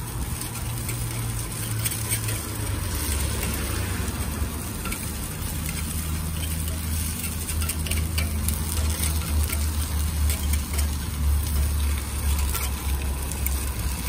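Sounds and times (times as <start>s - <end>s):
batter sizzling on a griddle: 0.0s - 14.0s
metal pick ticking: 0.0s - 14.0s.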